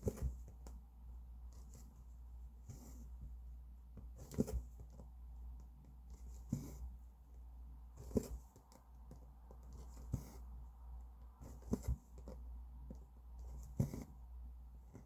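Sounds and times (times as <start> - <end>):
low steady hum: 0.0 - 15.0
needle and thread through fabric: 0.0 - 15.0.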